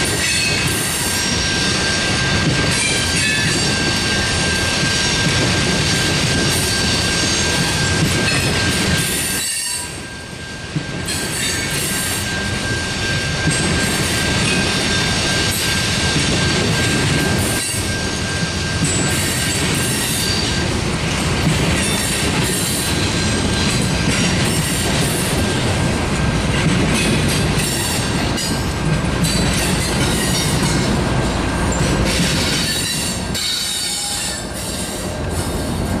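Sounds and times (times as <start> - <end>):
diesel locomotive passing: 0.0 - 36.0
train cars rolling past: 0.0 - 36.0.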